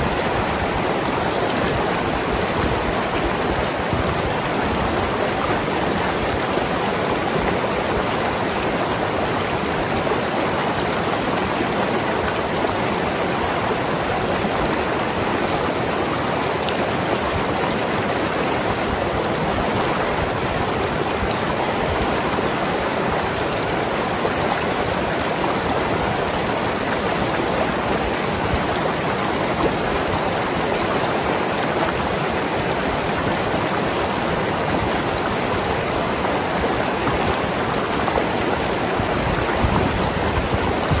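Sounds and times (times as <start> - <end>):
river flowing over rocks: 0.0 - 41.0.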